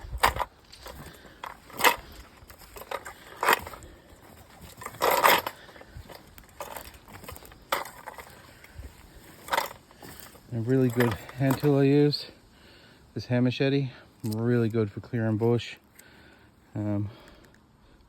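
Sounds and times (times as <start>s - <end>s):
crunching footsteps on trail: 0.0s - 13.1s, 14.0s - 17.7s.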